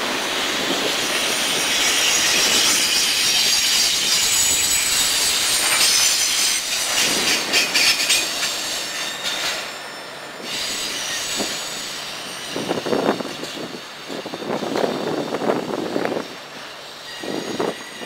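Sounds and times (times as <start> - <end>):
steel wheels squealing on rail: 0.0 - 18.0
train cars rolling past: 0.0 - 18.0.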